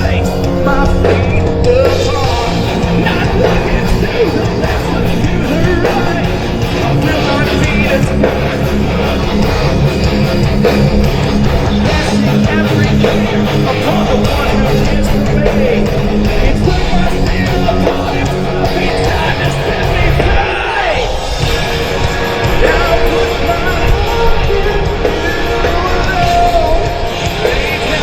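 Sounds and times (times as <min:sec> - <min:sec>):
electric guitars strumming riff: 0:00.0 - 0:28.0
steady drum beat: 0:00.0 - 0:28.0.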